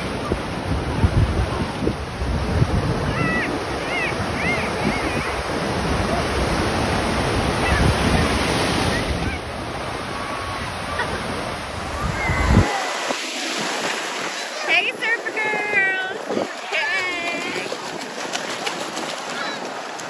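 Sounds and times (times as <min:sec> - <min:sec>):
surf breaking: 0:00.0 - 0:20.0
wind buffeting microphone: 0:00.0 - 0:20.0.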